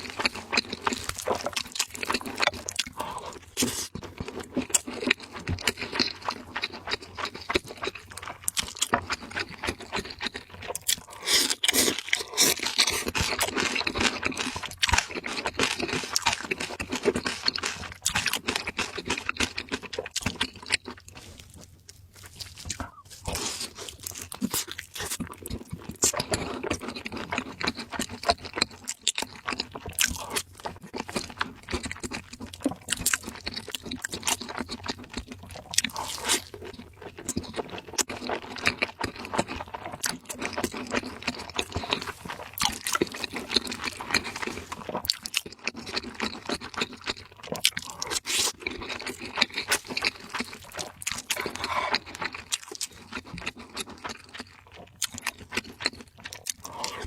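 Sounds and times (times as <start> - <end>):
chewing with crunches: 0.0 - 57.0.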